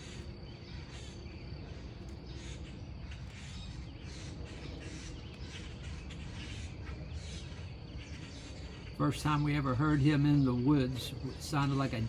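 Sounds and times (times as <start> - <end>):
birds harsh calls: 0.0 - 12.0
high insect drone: 0.0 - 12.0.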